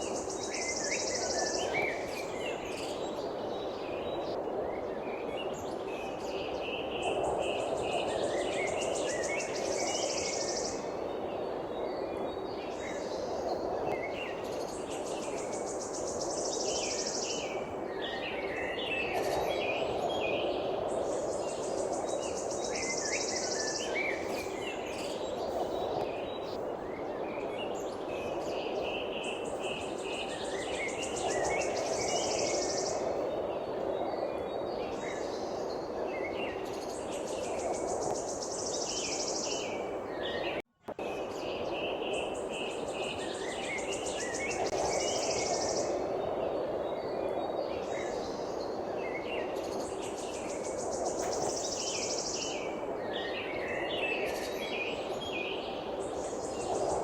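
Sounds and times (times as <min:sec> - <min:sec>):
small birds chirping: 0:05.2 - 0:57.0.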